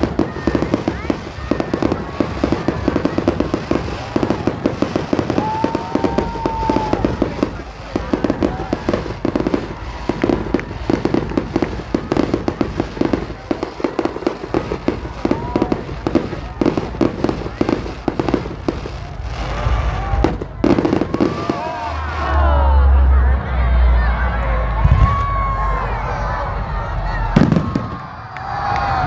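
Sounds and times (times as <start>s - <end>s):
fireworks crackling: 0.0s - 22.9s, 27.3s - 29.0s.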